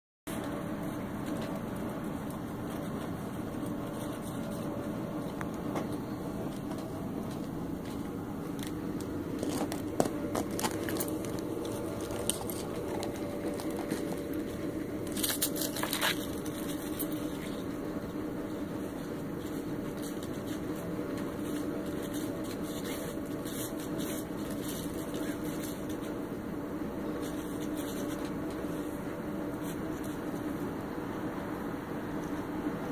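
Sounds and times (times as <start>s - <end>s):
low mechanical hum: 0.3s - 32.9s.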